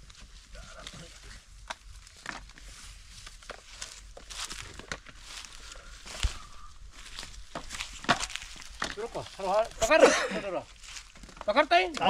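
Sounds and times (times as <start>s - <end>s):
footsteps in dry leaves: 0.0s - 11.7s.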